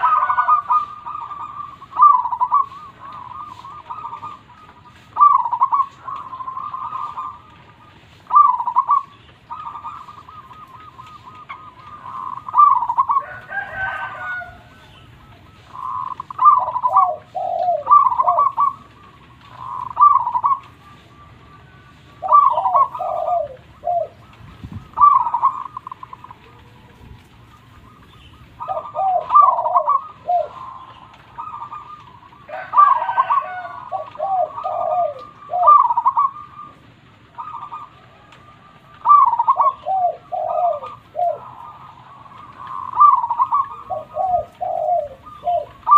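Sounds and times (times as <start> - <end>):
coarse bird call: 0.0 - 45.9
dove cooing: 0.0 - 45.9.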